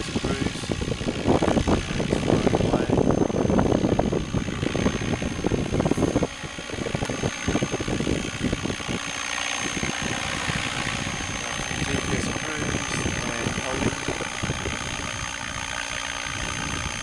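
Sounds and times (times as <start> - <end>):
model helicopter rotor and motor: 0.0 - 17.0
thin high whine: 0.0 - 17.0
wind buffeting microphone: 0.0 - 17.0.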